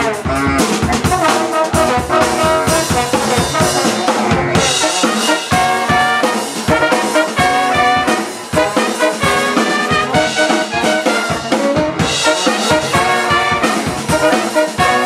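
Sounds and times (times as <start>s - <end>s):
brass band playing funk: 0.0s - 15.0s
drum kit beat: 0.0s - 15.0s.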